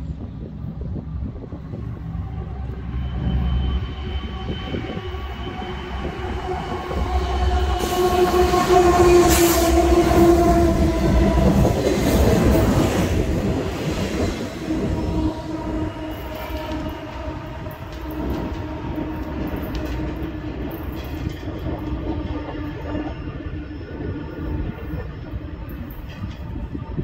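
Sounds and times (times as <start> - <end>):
diesel locomotive engine hum: 0.0 - 27.0
train wheels rolling on rails: 0.0 - 27.0.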